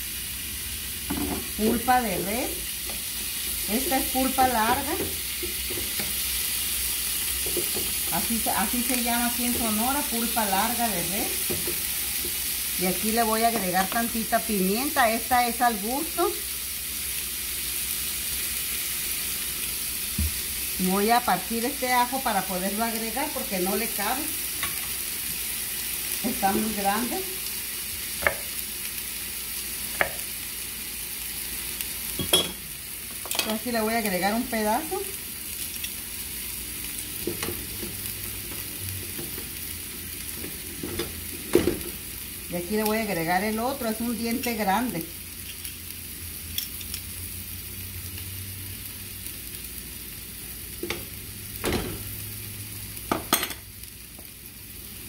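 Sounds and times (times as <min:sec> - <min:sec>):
beef sizzling in oil: 0:00.0 - 0:55.0.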